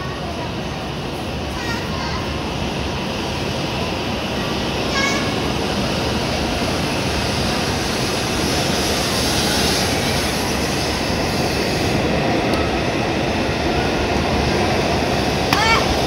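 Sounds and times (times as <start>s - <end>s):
train wheels rushing past: 0.0s - 16.0s.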